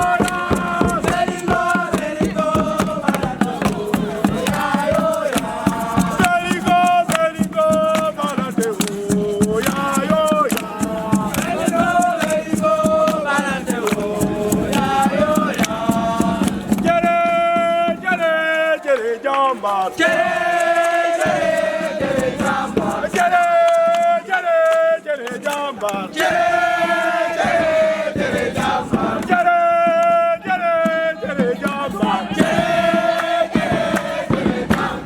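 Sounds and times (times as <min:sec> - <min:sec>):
fast percussive beat: 0:00.0 - 0:18.7, 0:19.6 - 0:24.2, 0:25.4 - 0:35.0
group of voices chanting: 0:00.0 - 0:35.0.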